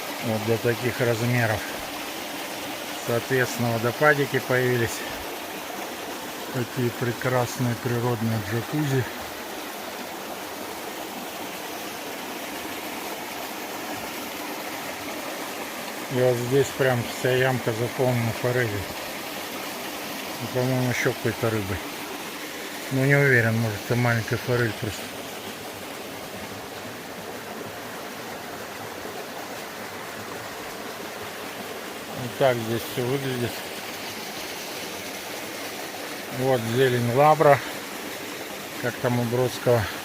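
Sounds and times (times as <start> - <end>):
stream over small waterfalls: 0.0 - 40.0.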